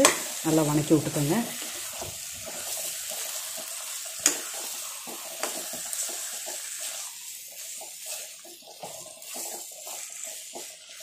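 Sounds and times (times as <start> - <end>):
food sizzling in a pan: 0.0 - 11.0
spoon scraping and clicking on pan: 1.6 - 11.0.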